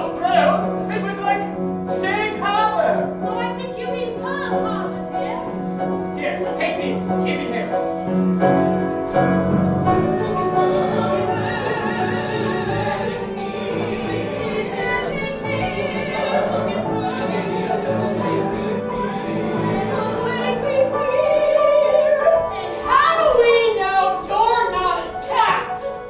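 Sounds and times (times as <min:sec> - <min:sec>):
instrumental accompaniment: 0:00.0 - 0:26.0.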